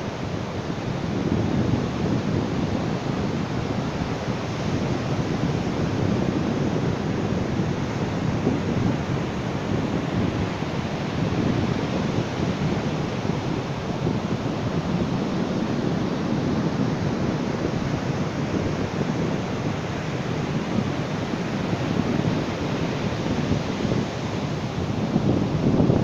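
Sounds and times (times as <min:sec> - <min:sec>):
ocean surf washing onto beach: 0:00.0 - 0:26.0.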